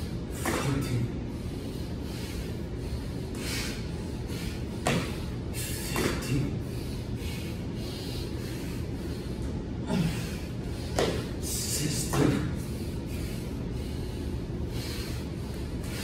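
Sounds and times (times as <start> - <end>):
steady background noise: 0.0 - 16.0
person breathing hard: 1.2 - 11.4, 12.5 - 16.0.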